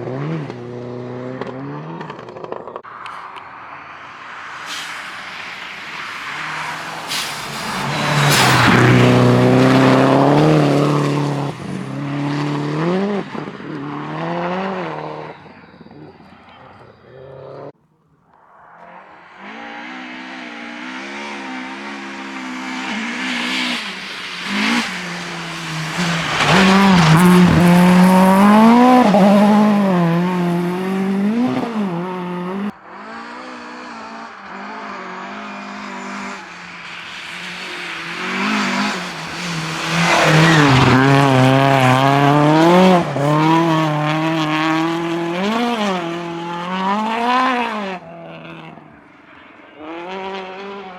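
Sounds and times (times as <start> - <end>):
rally cars passing at speed: 0.0 - 50.9.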